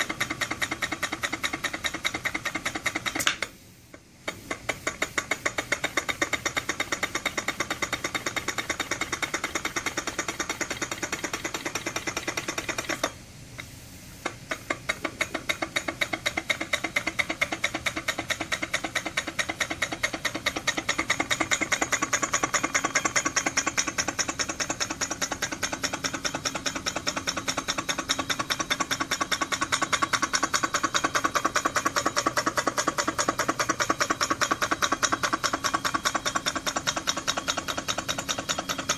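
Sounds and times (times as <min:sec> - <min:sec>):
model steam engine clicking: 0:00.0 - 0:03.5, 0:04.3 - 0:38.9.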